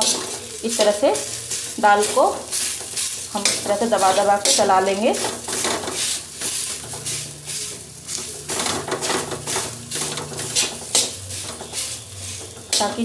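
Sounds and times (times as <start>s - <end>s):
metal spoon scraping a pan: 0.0s - 13.0s
oil sizzling: 0.0s - 13.0s.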